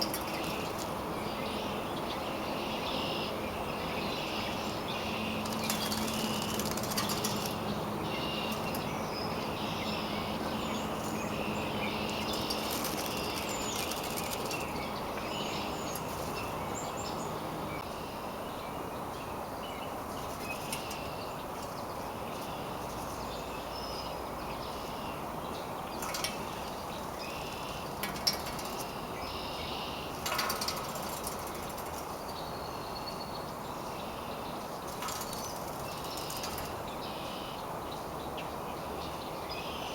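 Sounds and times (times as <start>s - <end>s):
birds chirping: 0.0s - 39.9s
low outdoor hum: 0.0s - 39.9s.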